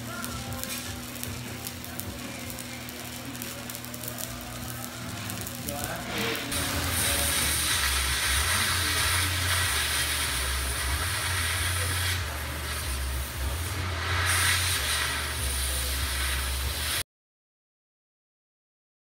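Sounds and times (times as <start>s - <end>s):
welding arc hissing crackle: 0.0s - 17.0s.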